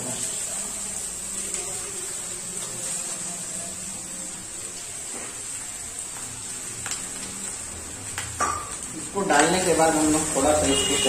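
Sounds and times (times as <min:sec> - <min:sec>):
vegetables frying: 0:00.0 - 0:11.0.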